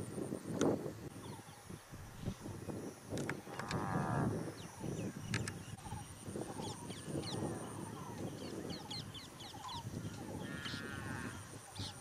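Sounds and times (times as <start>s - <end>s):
wild birds chirping: 1.1s - 12.0s.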